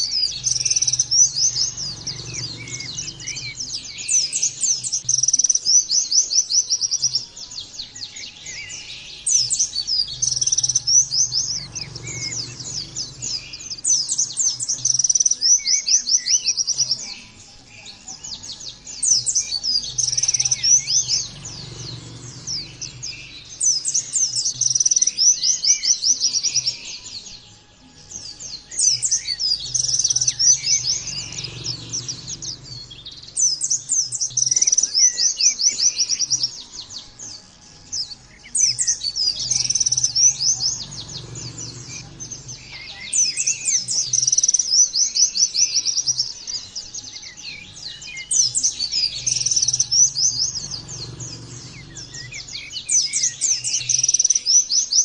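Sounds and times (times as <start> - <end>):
bird chattering trills: 0.0 - 27.2, 28.2 - 55.0.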